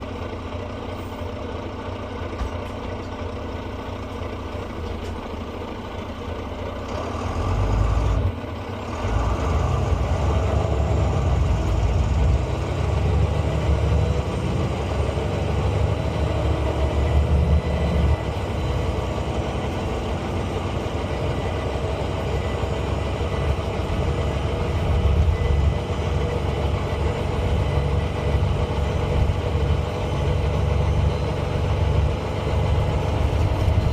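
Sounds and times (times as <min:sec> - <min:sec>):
bus diesel engine: 0:00.0 - 0:33.9.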